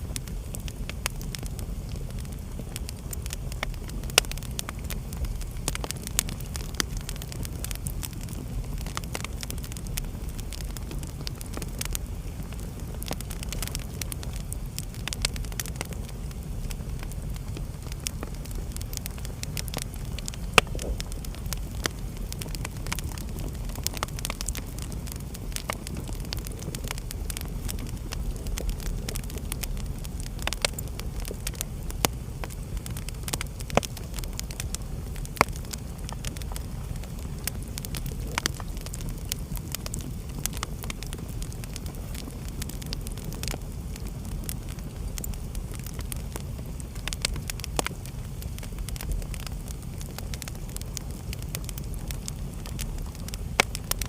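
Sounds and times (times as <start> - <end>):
fire crackling and popping: 0.0 - 54.0
low rumble of flame: 0.0 - 54.0.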